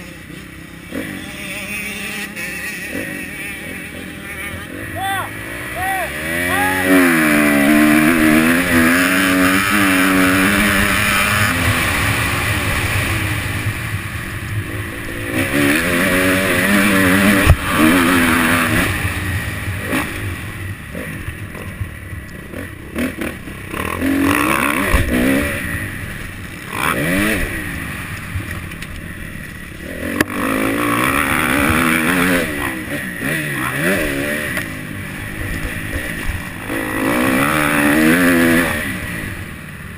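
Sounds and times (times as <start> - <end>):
motocross bike engine revving: 0.0 - 39.9
noisy rush: 0.0 - 39.9.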